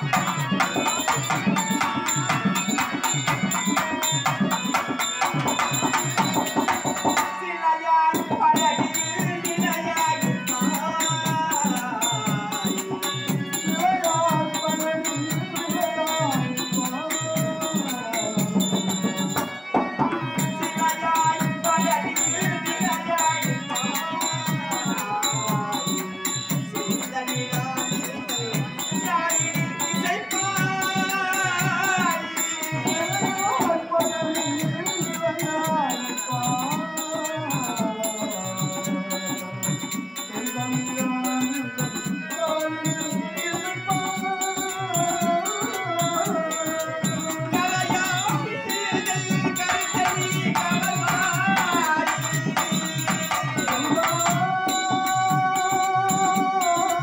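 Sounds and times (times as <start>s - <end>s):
hand percussion beat: 0.0s - 57.0s
harmonium: 0.0s - 57.0s
person singing: 0.0s - 57.0s.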